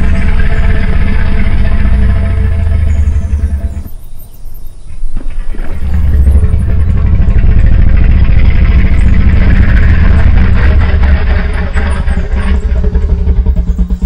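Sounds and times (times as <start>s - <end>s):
low rumbling growl roar: 0.0s - 4.2s, 5.2s - 14.0s.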